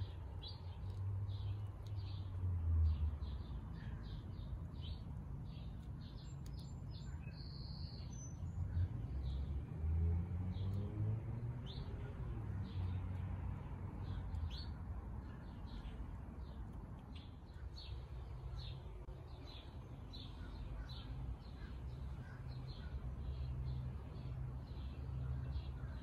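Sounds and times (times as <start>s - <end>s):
small birds chirping: 0.0s - 9.6s, 10.4s - 26.0s.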